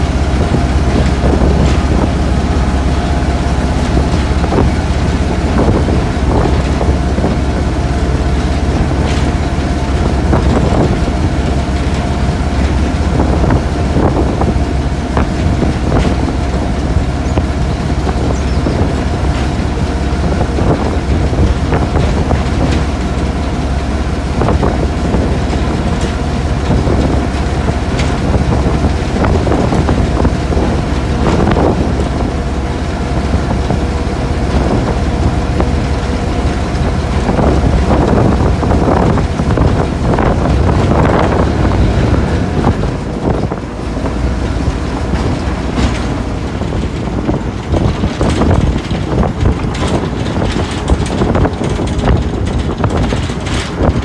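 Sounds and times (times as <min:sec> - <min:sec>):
diesel train rumbling: 0:00.0 - 0:54.0
wheels clicking over rail joints: 0:00.0 - 0:54.0.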